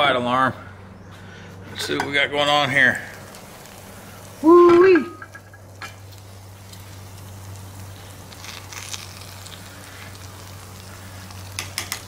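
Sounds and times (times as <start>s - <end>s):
low hum: 0.0s - 11.6s
food simmering and sizzling: 1.8s - 12.0s.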